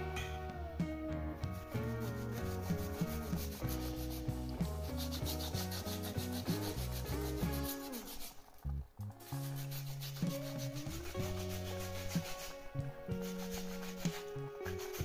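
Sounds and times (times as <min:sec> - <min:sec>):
background tune: 0:00.0 - 0:15.0
tomato rasping on grater: 0:01.7 - 0:08.6, 0:09.2 - 0:15.0.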